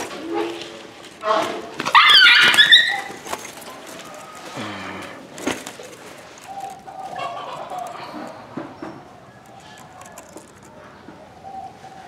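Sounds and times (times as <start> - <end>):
dove cooing: 2.0 - 12.0.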